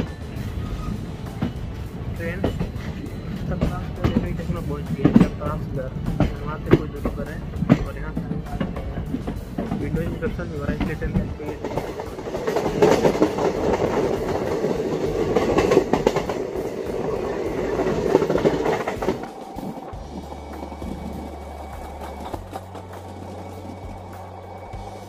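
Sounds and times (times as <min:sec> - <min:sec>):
background music with low notes: 0:00.0 - 0:25.0
train rumble and wheel clatter: 0:00.0 - 0:25.0.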